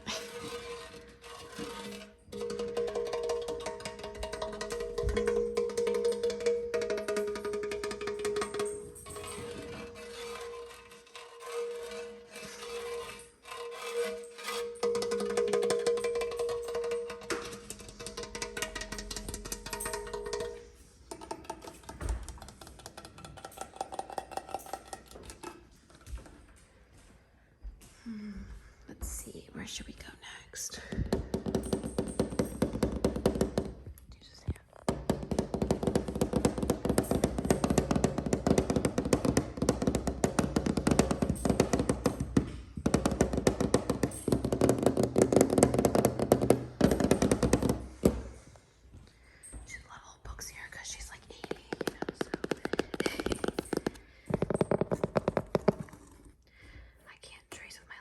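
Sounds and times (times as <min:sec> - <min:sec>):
fast tapping on ringing object: 0:00.3 - 0:25.4, 0:31.0 - 0:34.0, 0:34.9 - 0:48.3, 0:51.3 - 0:56.2.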